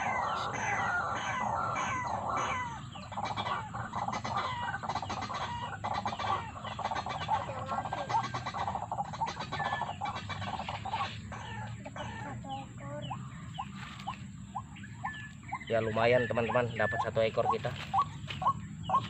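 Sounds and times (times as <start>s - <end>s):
clucking fowl-like bird calls: 0.0s - 19.0s.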